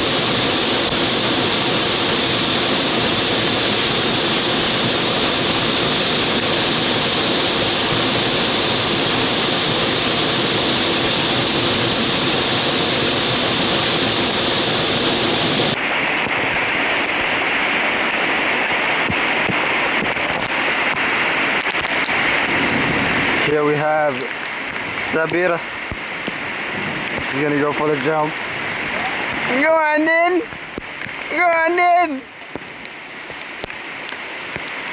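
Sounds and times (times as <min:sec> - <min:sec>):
waterfall rushing: 0:00.0 - 0:32.4
heavy rain: 0:00.0 - 0:34.9.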